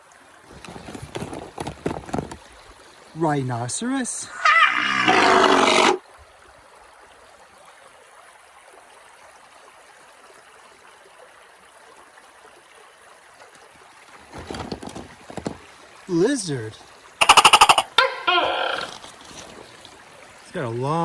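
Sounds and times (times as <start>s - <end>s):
stream flowing over rocks: 0.0s - 21.0s.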